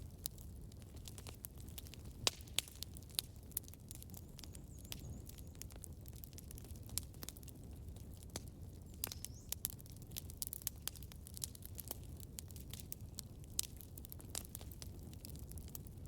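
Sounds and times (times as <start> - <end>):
campfire rumble: 0.0 - 16.0
crackles and pops of burning wood: 0.0 - 16.0.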